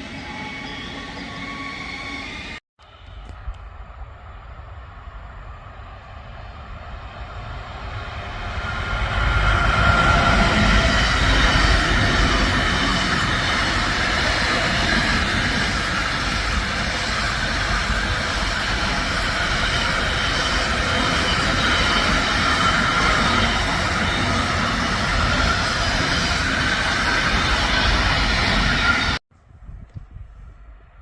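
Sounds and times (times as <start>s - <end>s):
train passing on rails: 0.0s - 29.2s.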